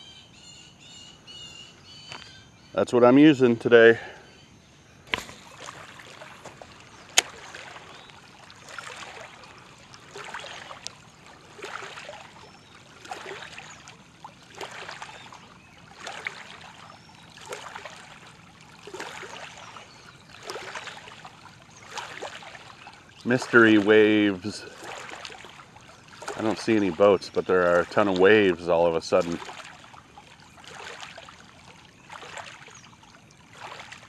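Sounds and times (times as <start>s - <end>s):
small waves lapping on gravel shore: 5.1s - 34.0s.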